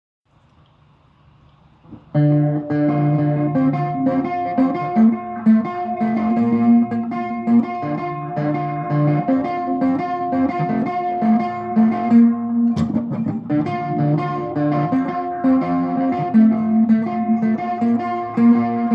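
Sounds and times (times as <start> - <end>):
guitar picking notes: 1.9 - 18.9.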